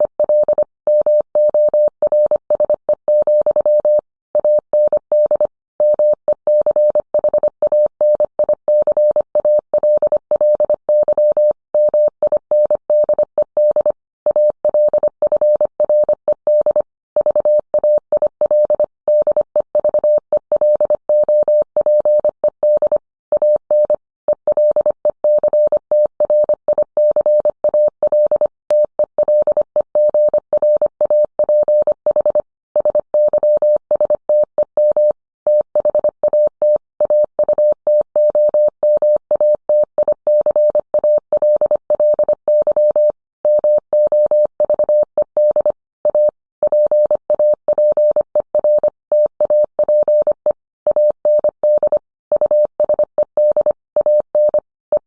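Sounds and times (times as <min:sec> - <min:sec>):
morse code beeps: 0:00.0 - 0:55.0.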